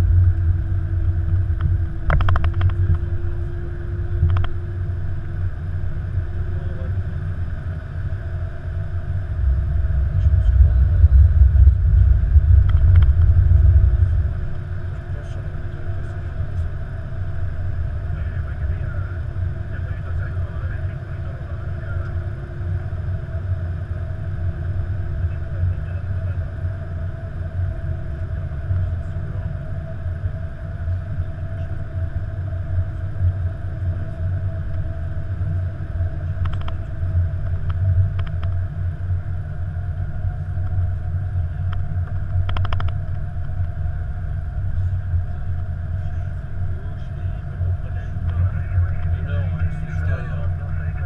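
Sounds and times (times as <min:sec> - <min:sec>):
low rumble: 0:00.0 - 0:51.0
mid-pitched hum: 0:00.0 - 0:51.0.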